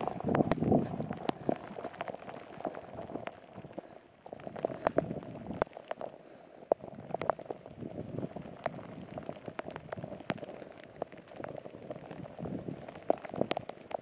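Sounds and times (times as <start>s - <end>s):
raindrops tapping near microphone: 0.0s - 14.0s
steady rain patter: 0.0s - 14.0s.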